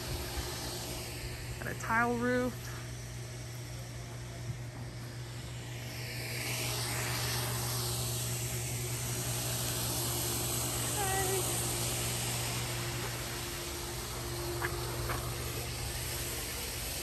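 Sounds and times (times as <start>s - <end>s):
air conditioner fan rush: 0.0s - 17.0s.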